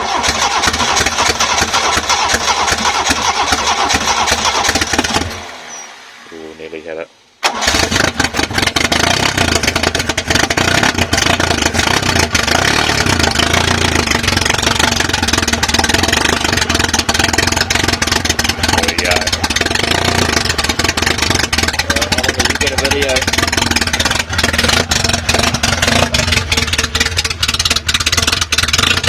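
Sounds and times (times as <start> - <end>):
car engine running loudly: 0.0 - 6.2, 7.5 - 29.0.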